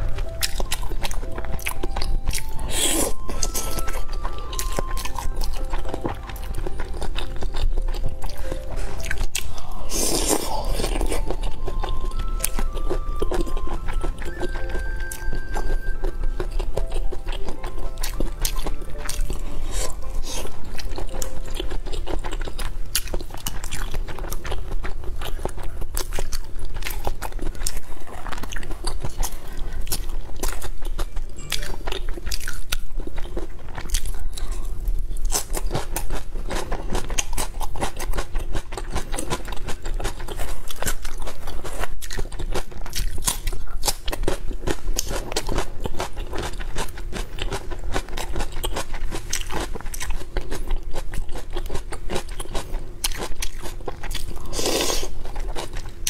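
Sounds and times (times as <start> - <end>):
crisp crunching and chewing: 0.0 - 56.0.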